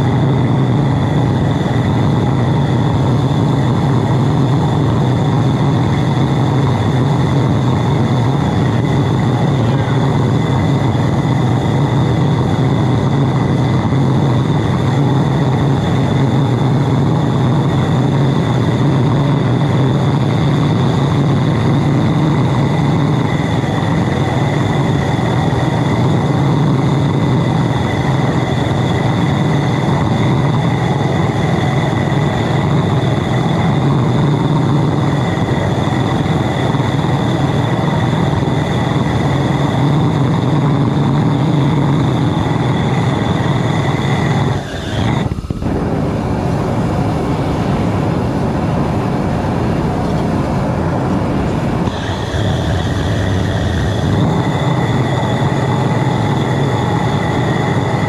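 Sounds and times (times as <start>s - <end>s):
thin steady whistle: 0.0s - 47.5s, 51.5s - 58.0s
burner flame roaring: 0.0s - 58.0s.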